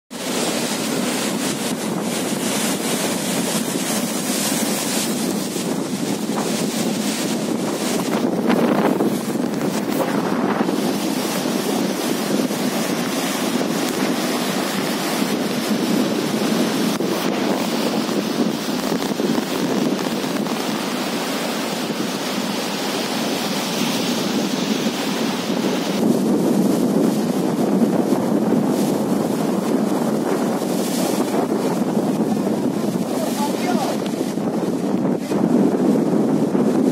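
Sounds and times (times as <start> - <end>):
surf breaking against rocks: 0.1 - 36.9
wind buffeting microphone: 0.1 - 36.9.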